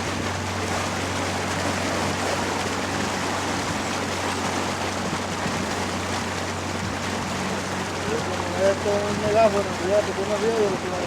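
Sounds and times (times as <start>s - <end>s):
motorboat engine running: 0.0s - 11.0s
water rushing past hull: 0.0s - 11.0s.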